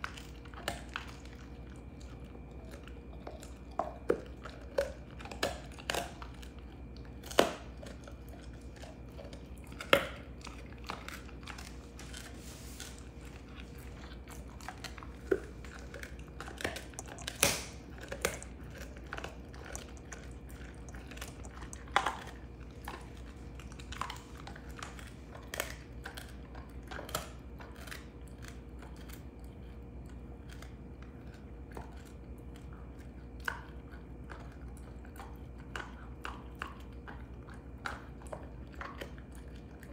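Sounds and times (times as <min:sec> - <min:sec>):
dog crunching bone: 0:00.0 - 0:39.9
dog gnawing: 0:00.0 - 0:39.9.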